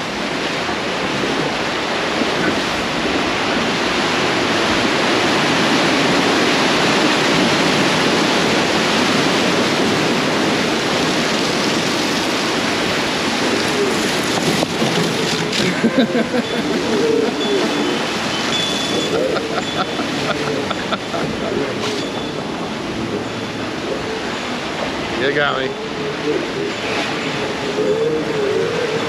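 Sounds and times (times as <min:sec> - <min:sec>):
rushing river water: 0:00.0 - 0:29.0.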